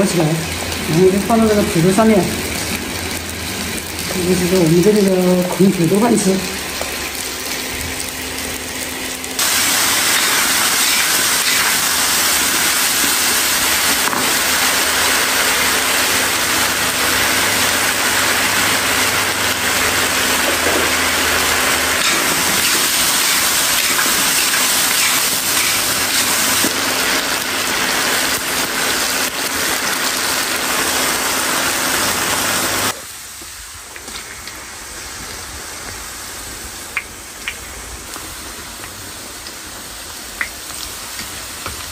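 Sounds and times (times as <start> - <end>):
potatoes frying in oil: 0.0 - 41.9.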